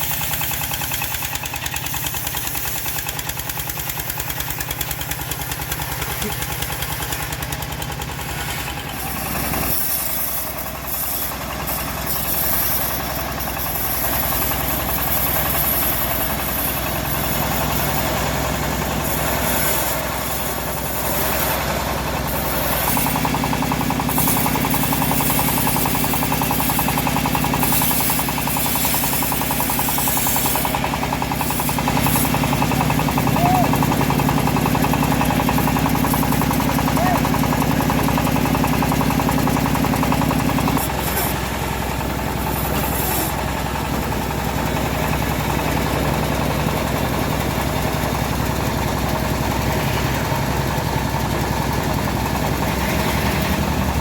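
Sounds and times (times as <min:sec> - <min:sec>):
bandsaw mill engine running: 0:00.0 - 0:54.0.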